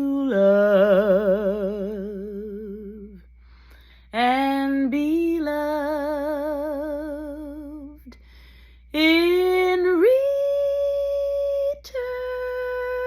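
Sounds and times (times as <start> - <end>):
woman singing with vibrato: 0.0 - 3.4, 4.1 - 8.2, 8.9 - 13.0.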